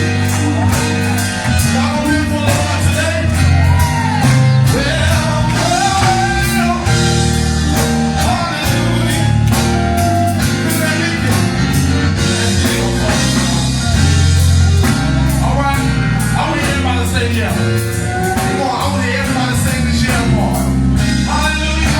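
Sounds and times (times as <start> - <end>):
band with drums and guitar: 0.0 - 21.9
voices singing: 0.0 - 21.9.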